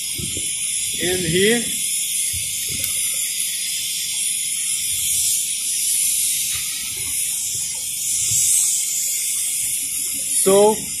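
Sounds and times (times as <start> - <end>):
high-pitched plant hiss: 0.0 - 11.0.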